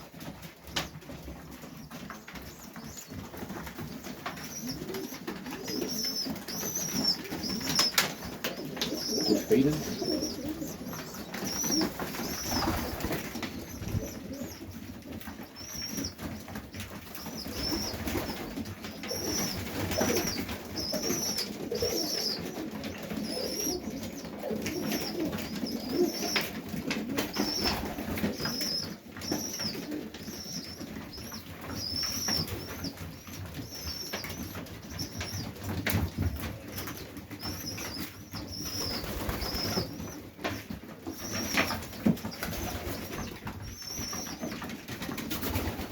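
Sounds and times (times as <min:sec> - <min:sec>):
pigeons cooing: 0:00.8 - 0:44.6.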